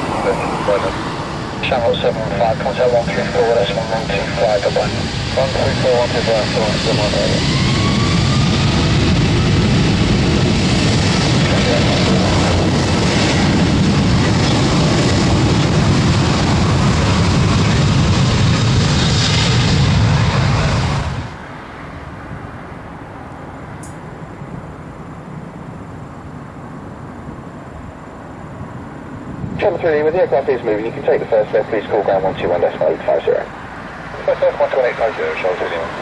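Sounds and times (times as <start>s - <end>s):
jet engines roaring: 0.0s - 36.0s.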